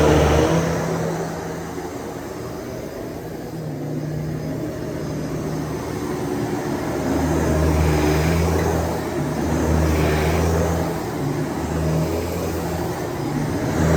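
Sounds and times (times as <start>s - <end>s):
vacuum cleaner motor hum: 0.0s - 13.9s.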